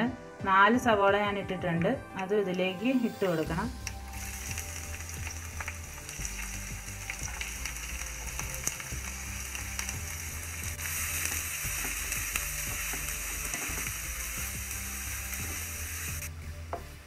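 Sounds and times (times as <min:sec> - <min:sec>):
onions sizzling in hot oil: 0:02.5 - 0:16.3.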